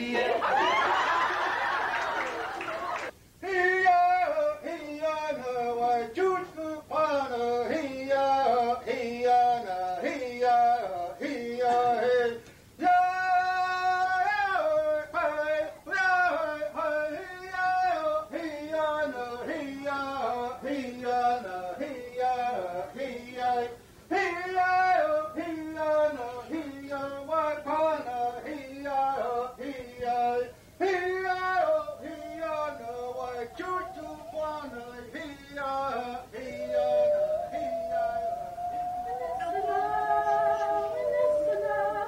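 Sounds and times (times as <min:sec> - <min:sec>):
men and women singing: 0:03.4 - 0:42.0.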